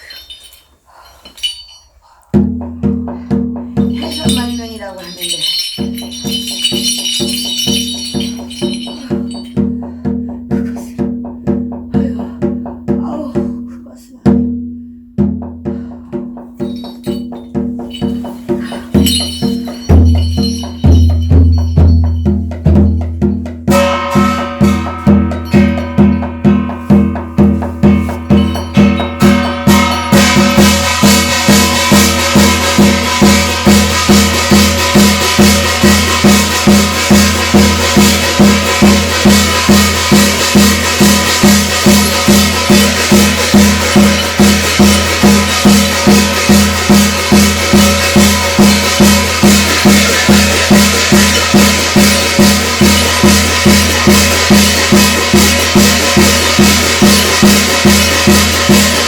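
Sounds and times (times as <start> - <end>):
bright jangling high sound: 0.0 - 2.3, 3.8 - 9.9, 16.5 - 59.0
steady percussion beat: 0.0 - 59.0.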